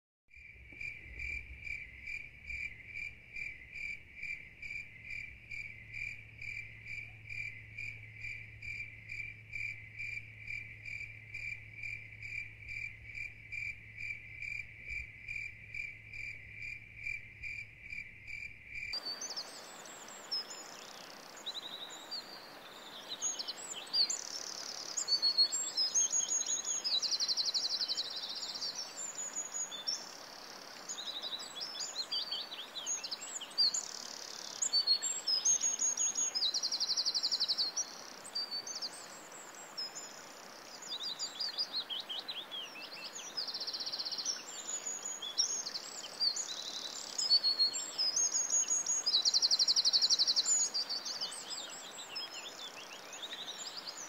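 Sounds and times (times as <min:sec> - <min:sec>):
songbirds singing: 0:00.3 - 0:54.0
steady low hiss: 0:00.5 - 0:54.0.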